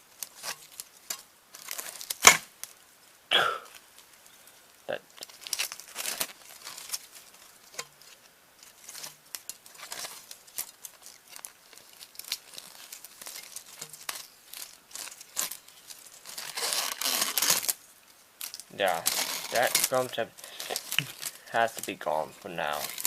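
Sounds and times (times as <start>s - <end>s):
foam strip tearing off plastic: 0.2s - 2.8s, 5.2s - 17.8s, 18.4s - 22.0s, 22.7s - 23.0s.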